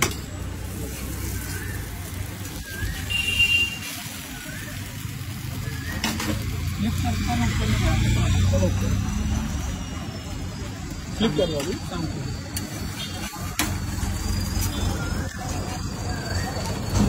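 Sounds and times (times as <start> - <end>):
food sizzling on griddle: 0.2 - 16.9.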